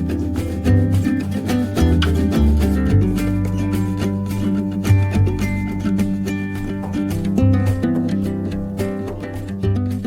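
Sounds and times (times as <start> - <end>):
upbeat music with plucked guitar: 0.0 - 10.0.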